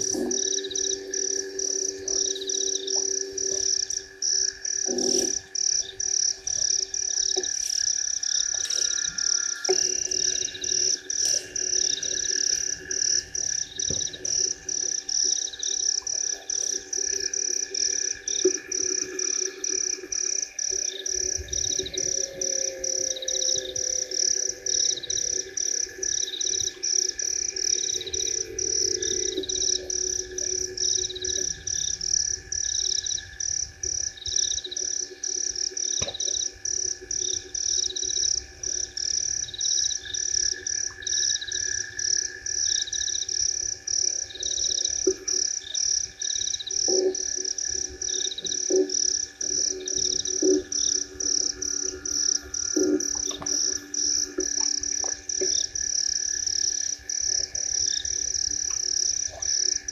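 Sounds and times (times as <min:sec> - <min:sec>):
frog pulsing high call: 0:00.0 - 0:59.9
frogs trilling: 0:00.0 - 0:59.9
low frog croaks: 0:00.0 - 0:59.9.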